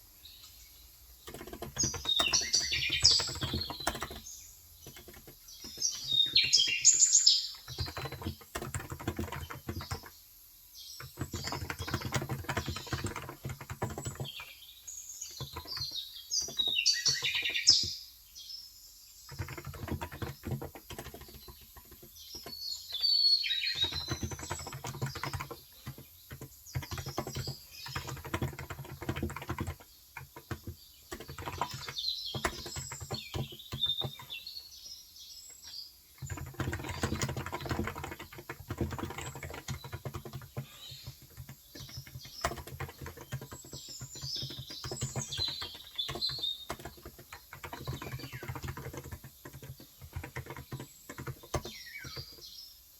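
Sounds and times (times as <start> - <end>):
birds chirping: 0.0 - 52.9
keyboard typing: 0.4 - 10.2, 11.0 - 18.0, 19.3 - 34.5, 35.5 - 52.5.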